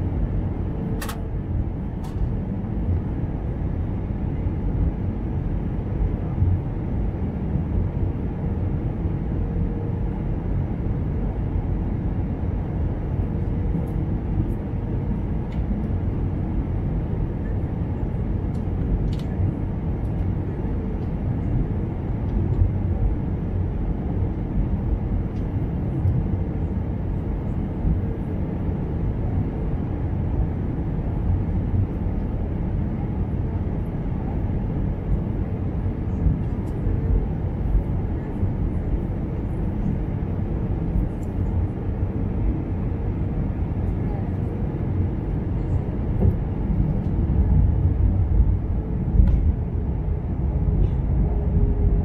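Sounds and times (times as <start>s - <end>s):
airplane cabin rumble: 0.0s - 52.0s.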